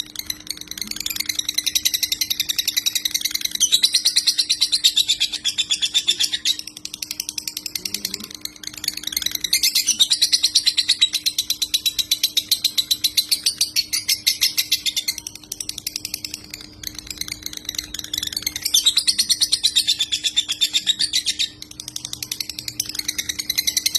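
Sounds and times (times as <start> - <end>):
faint steady hum: 0.0 - 23.9
lovebird chattering song: 0.0 - 23.9.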